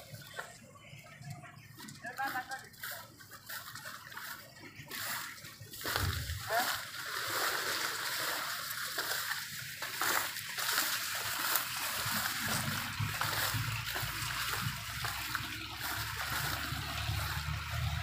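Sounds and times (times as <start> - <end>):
grass rustling and swishing: 2.2 - 18.0.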